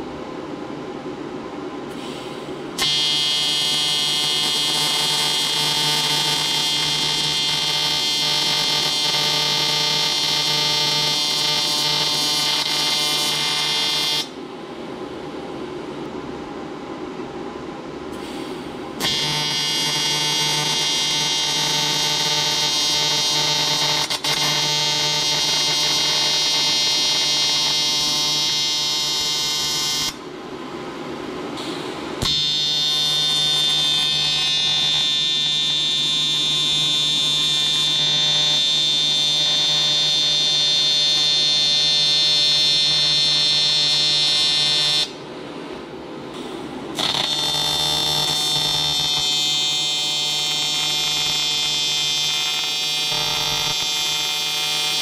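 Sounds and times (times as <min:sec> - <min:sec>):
welding arc buzzing: 0:01.9 - 0:14.5, 0:18.2 - 0:30.3, 0:31.4 - 0:45.2, 0:46.3 - 0:55.0.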